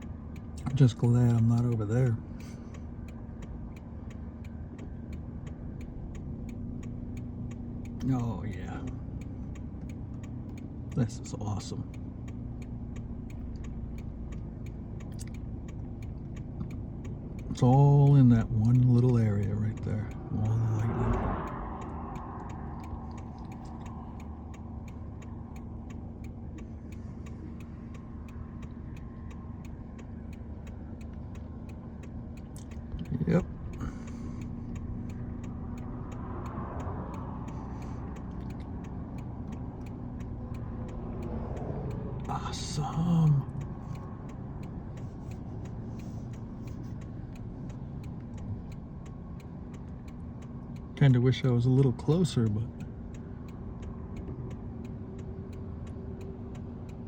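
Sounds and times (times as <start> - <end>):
low motor-like hum: 0.0 - 57.0
sharp regular ticks: 0.0 - 57.0
steady low rumble: 0.0 - 57.0.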